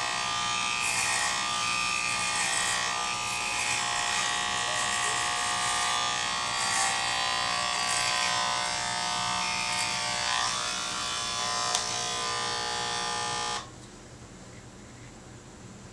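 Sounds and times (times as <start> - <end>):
electric hair clippers buzzing: 0.0 - 13.7.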